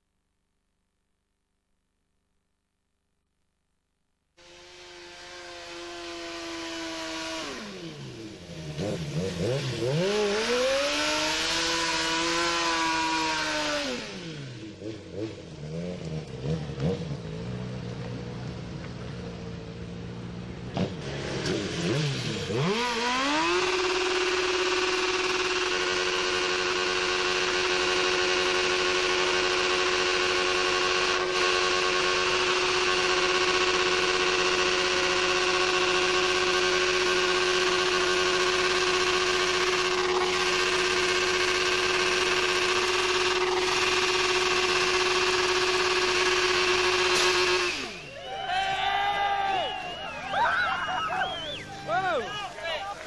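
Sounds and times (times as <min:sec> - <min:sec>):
motorcycle engine revving: 0:04.4 - 0:48.2.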